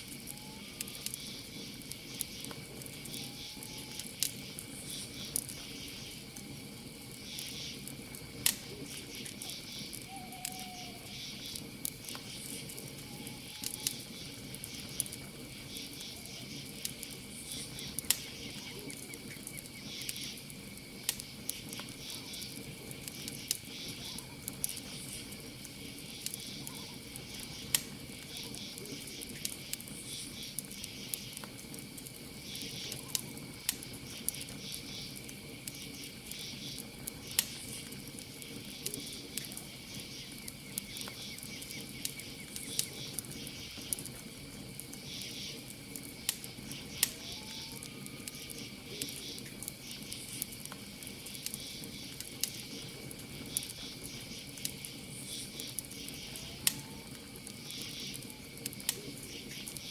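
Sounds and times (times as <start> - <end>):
campfire crackling and popping: 0.0 - 59.9
crickets chirping: 0.0 - 59.9
high insect trill: 0.0 - 59.9.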